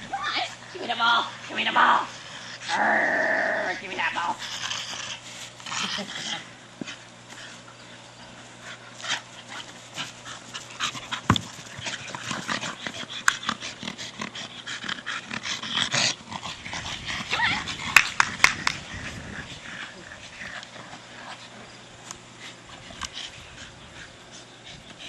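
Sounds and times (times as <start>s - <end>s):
dog panting hard: 4.4s - 25.0s.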